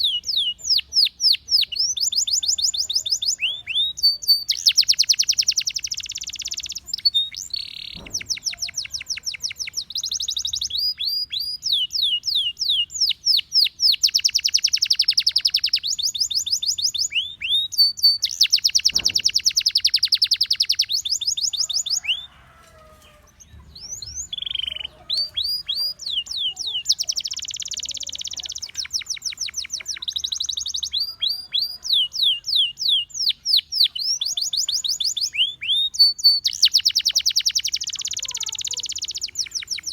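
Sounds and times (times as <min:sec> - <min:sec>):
canary singing with trills: 0:00.0 - 0:39.9.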